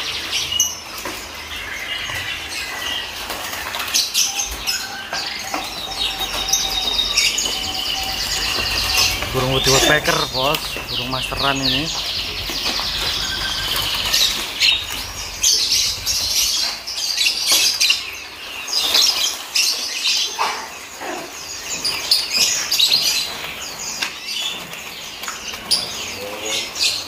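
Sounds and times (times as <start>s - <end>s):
songbirds chirping: 0.0s - 27.0s
wings tapping against cages: 0.0s - 27.0s.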